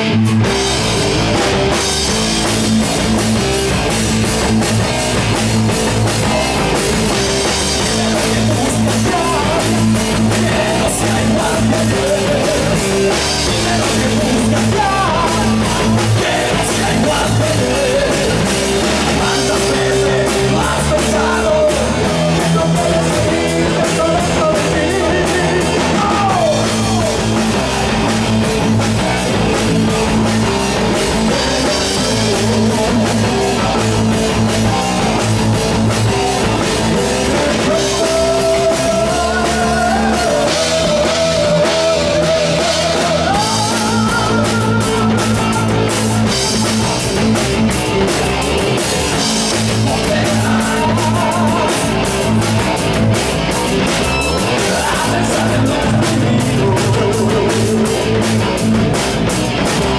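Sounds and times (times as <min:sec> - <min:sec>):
rock band playing live: 0:00.0 - 0:59.9
man singing: 0:05.5 - 0:47.4, 0:49.1 - 0:58.8.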